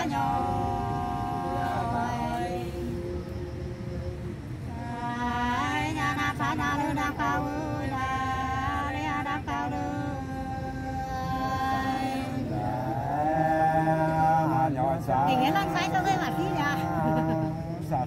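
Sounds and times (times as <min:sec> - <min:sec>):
women singing unaccompanied: 0:00.0 - 0:18.0.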